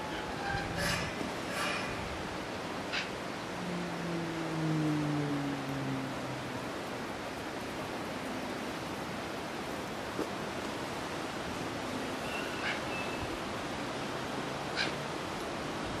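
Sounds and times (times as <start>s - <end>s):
rushing wind: 0.0s - 16.0s.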